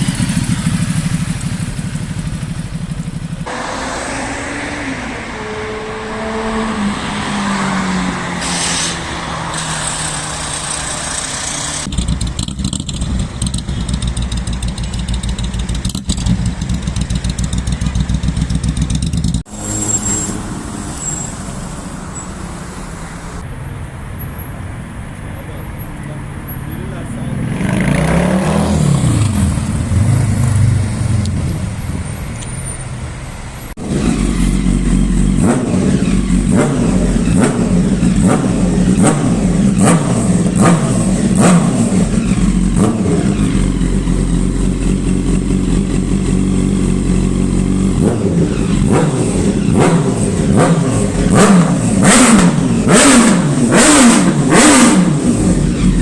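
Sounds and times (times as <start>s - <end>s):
motorcycle engine revving: 0.0s - 21.5s, 27.2s - 32.1s, 33.7s - 56.0s.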